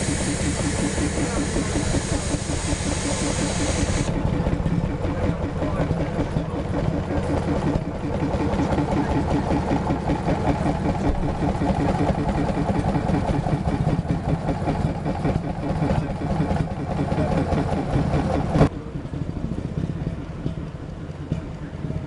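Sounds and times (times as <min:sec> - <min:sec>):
small engine running: 0:00.0 - 0:21.1.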